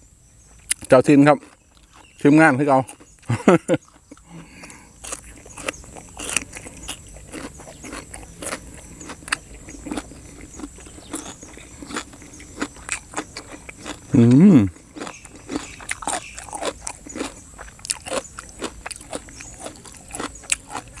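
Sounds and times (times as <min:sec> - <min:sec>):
person chewing crunchy food: 0:00.5 - 0:21.0.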